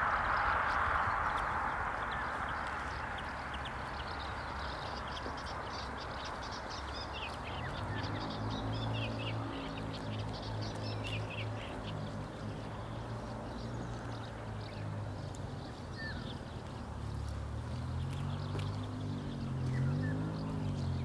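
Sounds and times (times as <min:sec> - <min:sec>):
birds chirping: 0:00.0 - 0:21.0
rushing background noise: 0:00.0 - 0:21.0.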